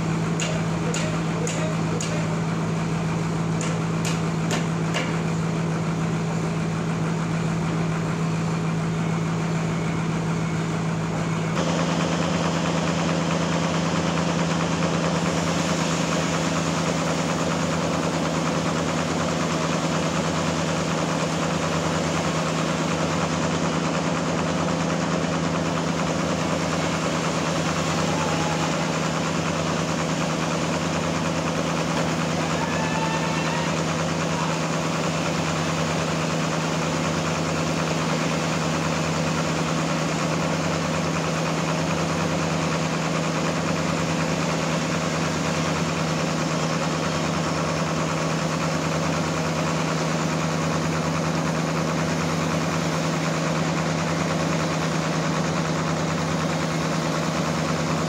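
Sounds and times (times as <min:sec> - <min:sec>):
sawmill engine humming: 0:00.0 - 0:58.0.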